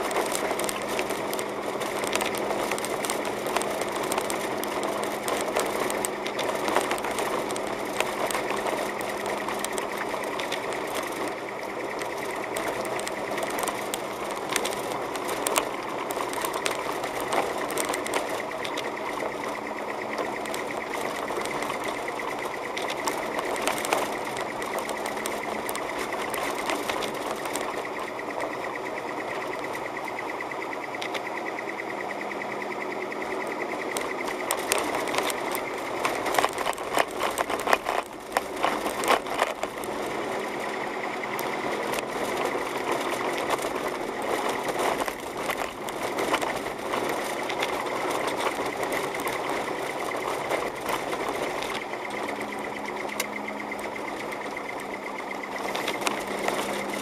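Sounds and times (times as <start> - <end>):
car engine and tyres running: 0.0 - 57.0
fast constant rattle: 0.0 - 57.0
sharp clicks: 0.0 - 57.0.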